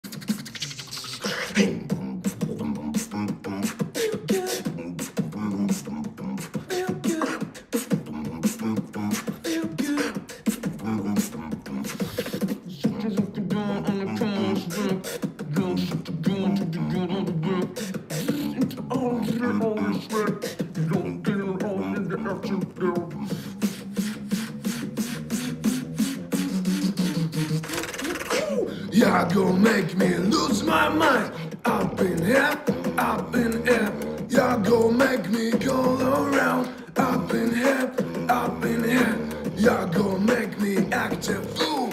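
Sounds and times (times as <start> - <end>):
beatboxing: 0.0 - 41.9.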